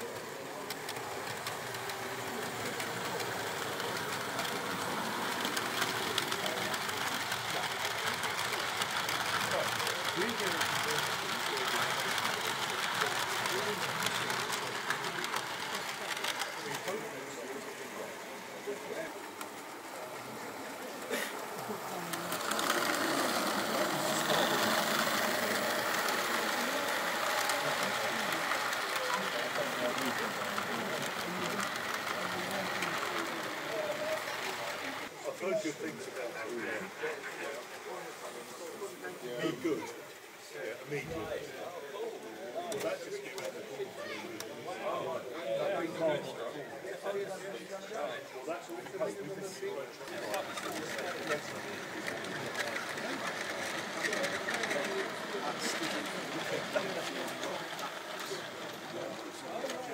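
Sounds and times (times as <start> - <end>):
model train motor whirring: 0.0 - 40.0, 48.7 - 59.9.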